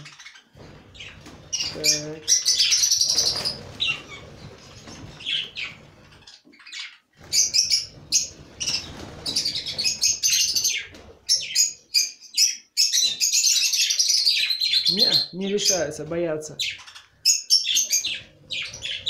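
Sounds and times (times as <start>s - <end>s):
budgerigars chirping: 0.0s - 19.0s.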